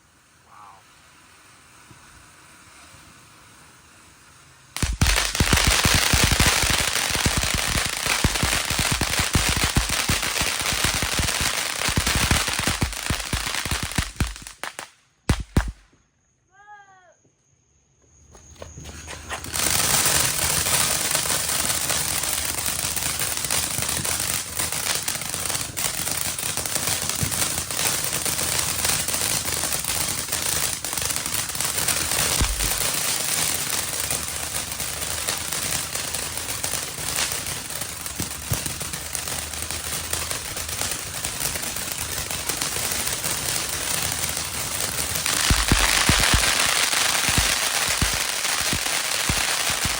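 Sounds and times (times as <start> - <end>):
fountain firework crackling: 0.0 - 15.8, 18.9 - 49.9.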